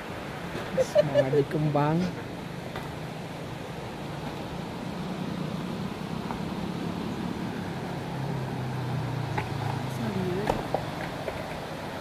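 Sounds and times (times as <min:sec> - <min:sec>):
low engine hum: 0:00.0 - 0:12.0
river running over rapids: 0:00.0 - 0:12.0.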